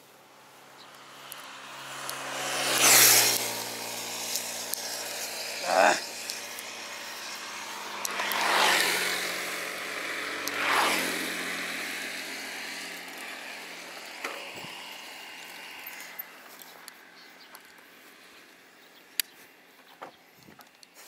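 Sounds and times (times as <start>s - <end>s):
motor vehicles passing: 0.0s - 21.0s.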